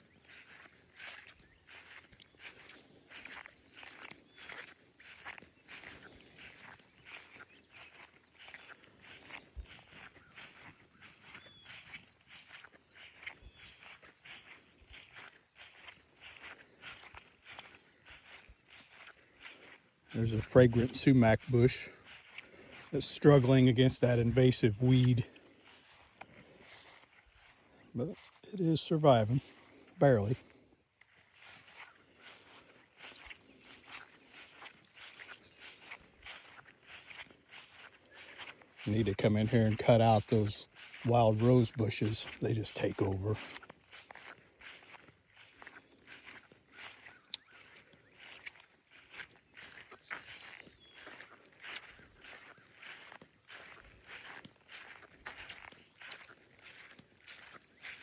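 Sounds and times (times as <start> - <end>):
footsteps through grass: 0.0 - 58.0
insects trilling: 0.0 - 58.0.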